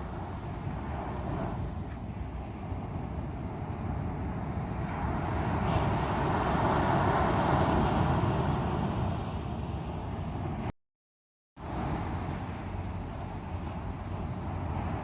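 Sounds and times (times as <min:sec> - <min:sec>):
sea waves surging onto shore: 0:00.0 - 0:10.7, 0:11.6 - 0:15.0.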